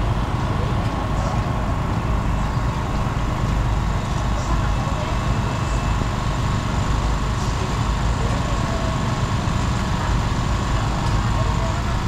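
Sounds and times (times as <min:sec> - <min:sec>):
faint constant whine: 0:00.0 - 0:12.0
low engine rumble: 0:00.0 - 0:12.0.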